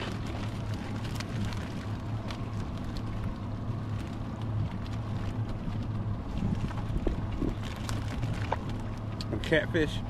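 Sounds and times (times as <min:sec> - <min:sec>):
boat engine idling: 0:00.0 - 0:10.0
water noise: 0:00.0 - 0:10.0
wind: 0:00.0 - 0:10.0.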